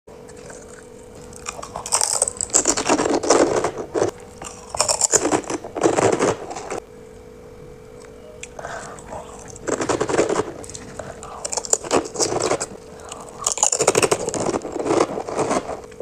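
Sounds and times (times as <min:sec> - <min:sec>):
faint steady hum: 0:00.1 - 0:16.0
crunching crisp food: 0:00.2 - 0:06.8, 0:07.8 - 0:16.0.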